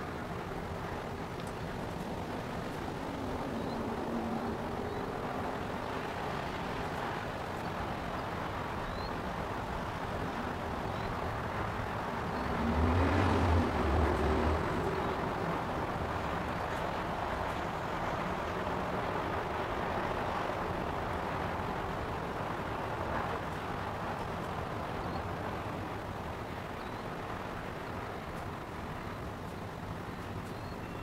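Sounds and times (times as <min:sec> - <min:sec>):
engine and traffic rumble: 0:00.0 - 0:31.0
vehicle engine deep hum: 0:00.0 - 0:31.0.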